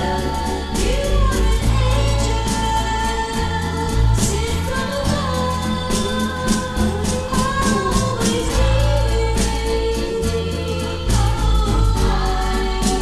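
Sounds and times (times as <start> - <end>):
pop band with bass and percussion: 0.0 - 13.0
woman singing: 0.0 - 13.0.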